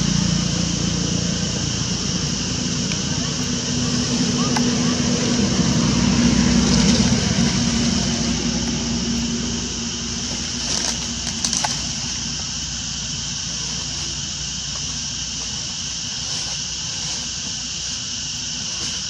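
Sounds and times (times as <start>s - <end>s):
steady high hiss: 0.0s - 19.0s
vehicle engine running: 0.0s - 19.0s.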